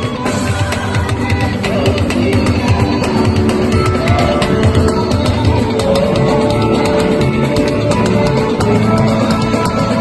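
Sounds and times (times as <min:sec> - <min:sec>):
drum beat: 0:00.0 - 0:10.0
guitar: 0:00.0 - 0:10.0.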